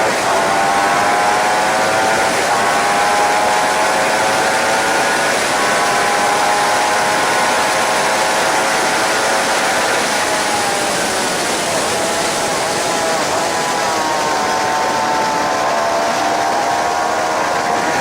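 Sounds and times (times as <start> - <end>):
heavy wind rush: 0.0 - 18.0
motorcycle engine at high revs: 0.0 - 18.0.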